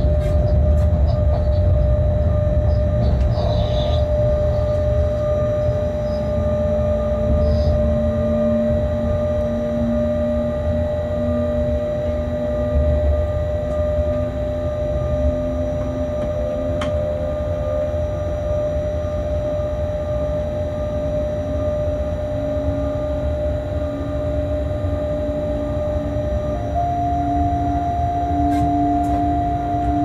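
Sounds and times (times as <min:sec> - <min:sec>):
drive whine: 0:00.0 - 0:30.0
locomotive low rumble: 0:00.0 - 0:30.0.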